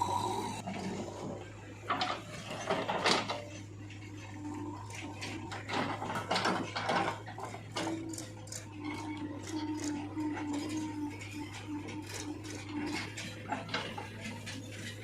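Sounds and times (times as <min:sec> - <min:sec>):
backhoe clicks and scrapes: 0:00.0 - 0:15.0.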